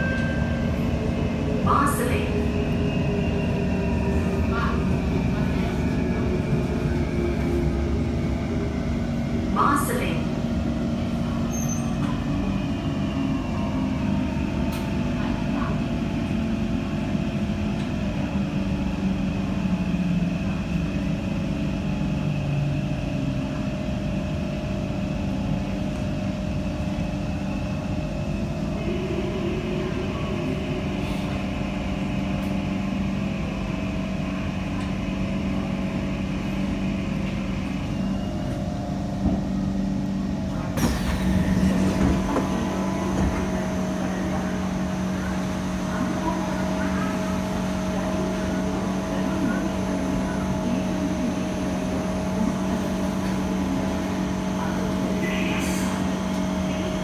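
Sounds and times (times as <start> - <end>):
train wheel and running noise: 0.0 - 57.0.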